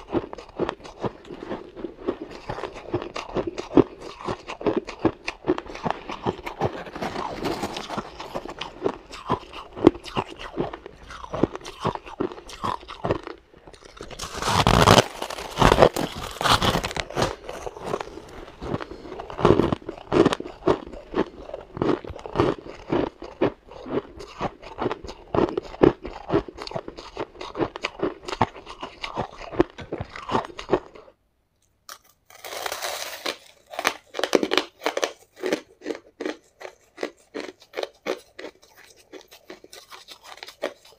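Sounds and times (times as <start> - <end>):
chewing and crunching shaved ice: 0.0 - 31.2, 31.9 - 40.9.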